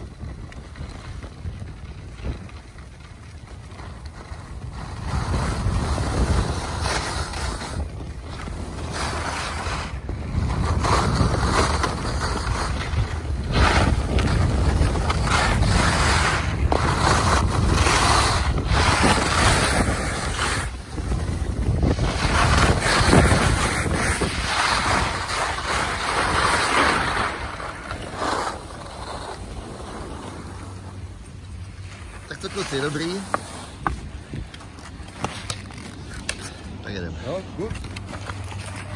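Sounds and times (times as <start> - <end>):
wind buffeting microphone: 0.0 - 37.4.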